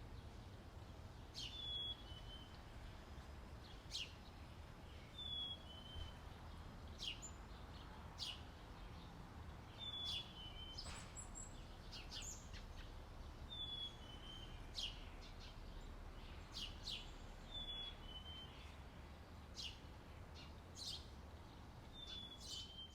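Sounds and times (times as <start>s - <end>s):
low background noise: 0.0s - 22.9s.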